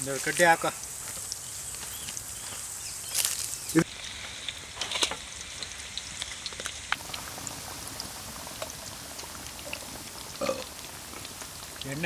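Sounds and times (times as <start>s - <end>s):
food deep-frying in oil: 0.0s - 12.0s
oil popping and crackling: 0.0s - 12.0s.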